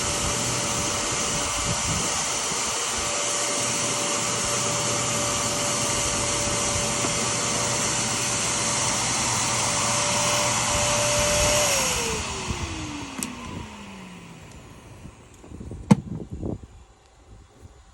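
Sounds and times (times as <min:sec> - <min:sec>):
vacuum motor whining: 0:00.0 - 0:16.7.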